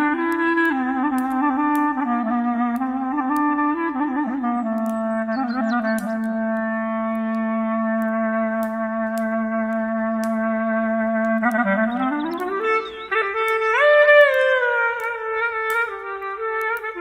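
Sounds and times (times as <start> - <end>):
campfire crackling: 0.0 - 17.0
clarinet playing: 0.0 - 17.0.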